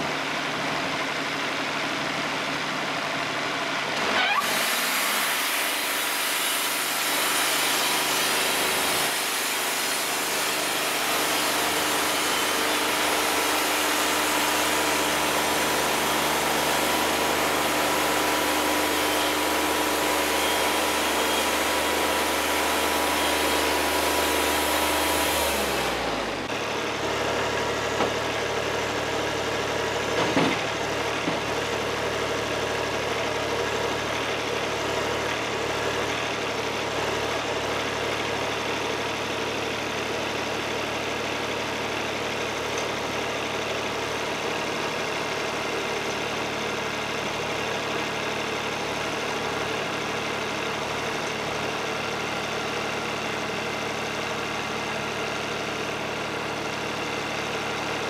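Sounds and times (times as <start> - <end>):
portable sawmill running: 0.0 - 58.0.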